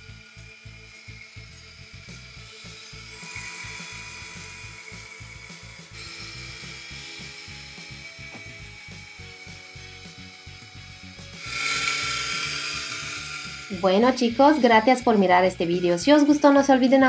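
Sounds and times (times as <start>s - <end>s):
background music: 0.0s - 17.0s
toy helicopter rotors whirring: 0.0s - 17.0s.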